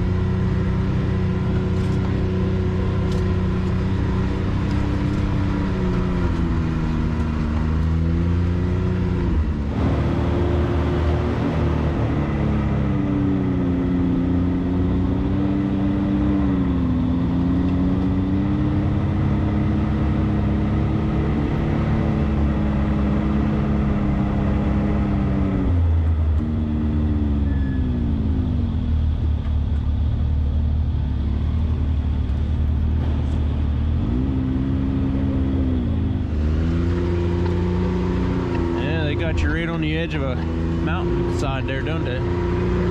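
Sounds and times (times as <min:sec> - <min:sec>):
off-road vehicle engine revving: 0:00.0 - 0:42.9.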